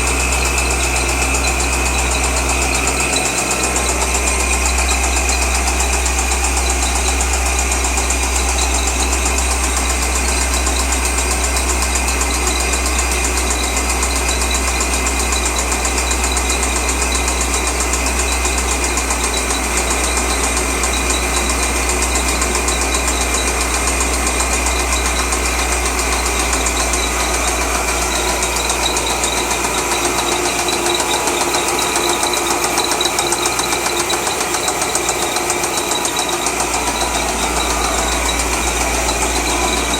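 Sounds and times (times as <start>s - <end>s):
car engine running: 0.0s - 39.9s
rapid ticking knock: 0.0s - 39.9s.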